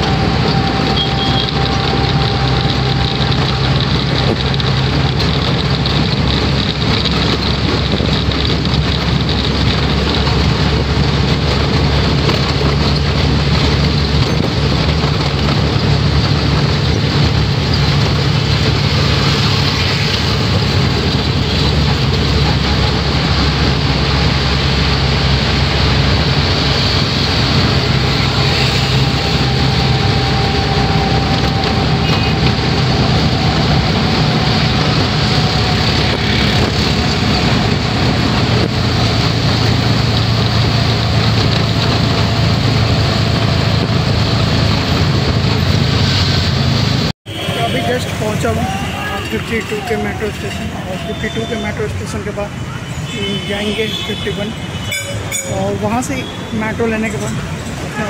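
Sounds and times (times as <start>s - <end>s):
auto-rickshaw engine running: 0.0s - 58.0s
wind and road noise: 0.0s - 58.0s.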